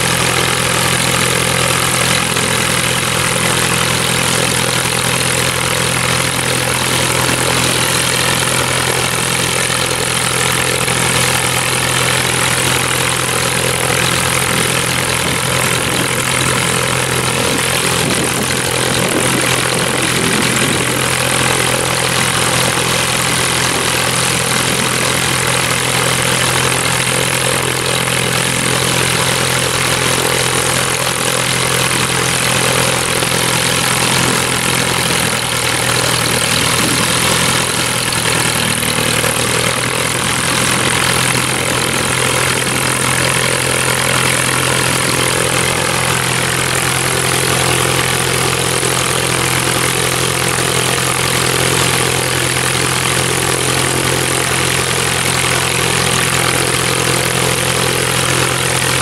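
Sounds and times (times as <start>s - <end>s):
light aircraft engine idling: 0.0s - 59.0s.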